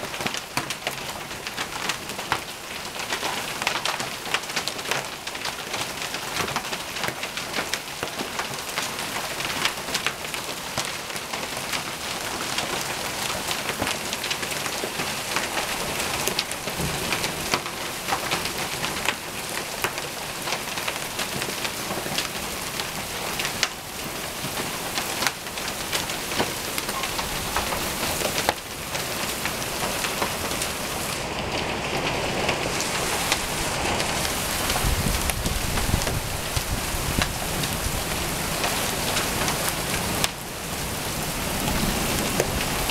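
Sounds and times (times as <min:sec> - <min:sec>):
hail pelting down: 0:00.0 - 0:42.9.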